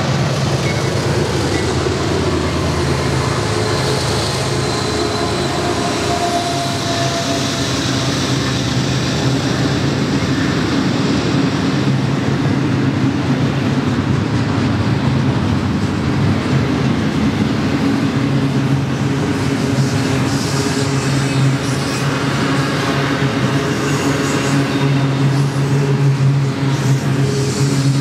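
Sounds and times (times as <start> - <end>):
freight train wheels on track: 0.0 - 28.0.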